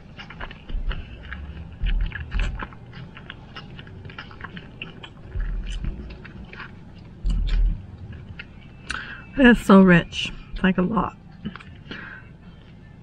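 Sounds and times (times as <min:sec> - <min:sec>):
dull low thumps: 0:00.0 - 0:08.6, 0:09.4 - 0:11.6
chewing with wet mouth clicks: 0:00.0 - 0:09.3, 0:11.2 - 0:13.0.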